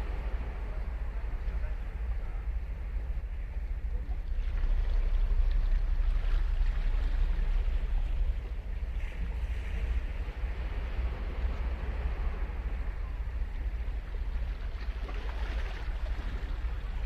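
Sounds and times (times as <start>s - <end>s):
steady low rumble: 0.0s - 17.0s
waves breaking on a beach: 0.0s - 17.0s.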